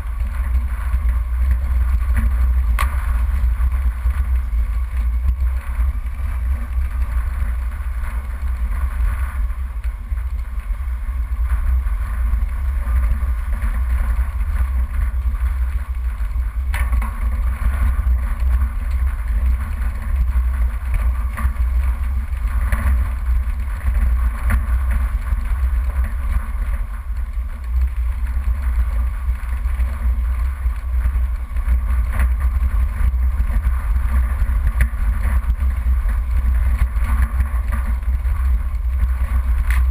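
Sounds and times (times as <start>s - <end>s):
off-road vehicle engine rumble: 0.0s - 39.9s.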